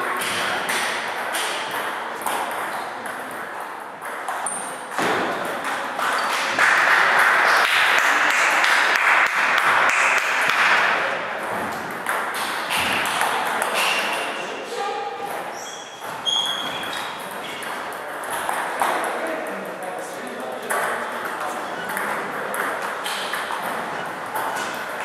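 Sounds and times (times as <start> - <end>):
table tennis balls bouncing: 0.0 - 14.4, 15.2 - 25.0.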